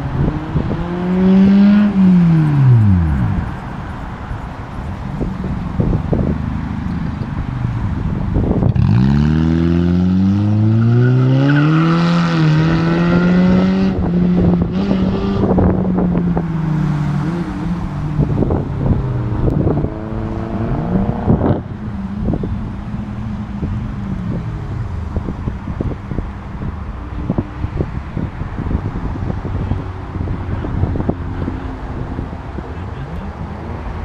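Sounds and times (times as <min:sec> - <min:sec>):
car engine accelerating: 0:00.0 - 0:34.0
second car engine: 0:00.0 - 0:34.0.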